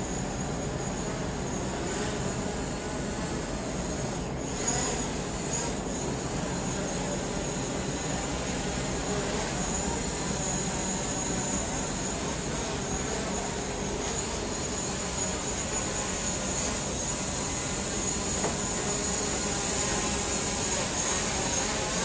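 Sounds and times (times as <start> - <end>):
mechanical hum and hiss: 0.0 - 22.0
thin high whine: 0.0 - 22.0.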